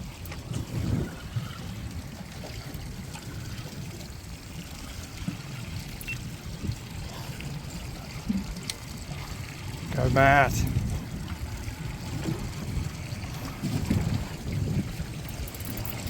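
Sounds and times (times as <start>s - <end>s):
water lapping against a hull: 0.0s - 16.0s.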